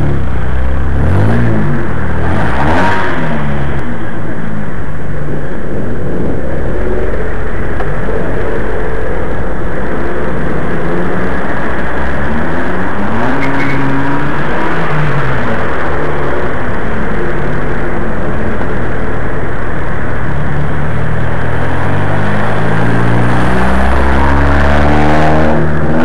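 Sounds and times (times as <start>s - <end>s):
car engines running: 0.0s - 26.0s
traffic rush: 0.0s - 26.0s.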